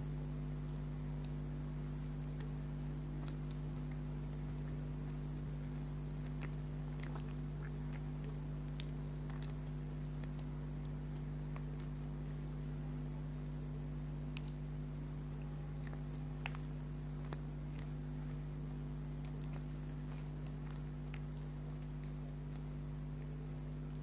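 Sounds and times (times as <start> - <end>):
low electrical hum: 0.0 - 24.0
person chewing food: 0.4 - 24.0.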